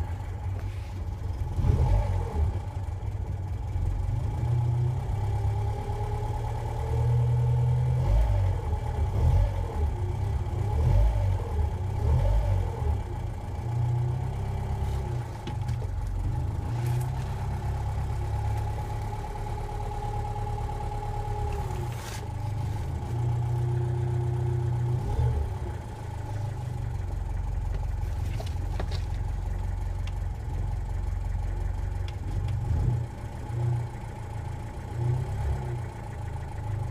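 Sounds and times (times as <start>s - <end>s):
old vehicle engine revving: 1.4s - 3.1s, 3.9s - 36.9s.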